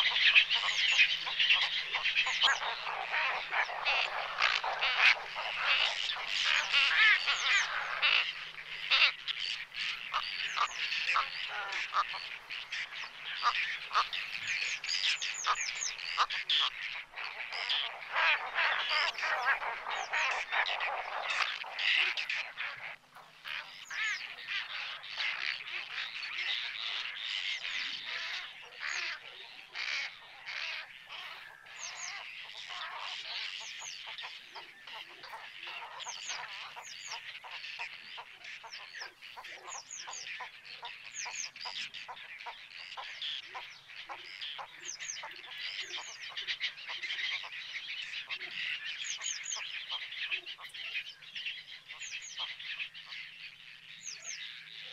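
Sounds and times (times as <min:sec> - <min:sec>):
flock of waterbirds calling: 0:00.0 - 0:54.9.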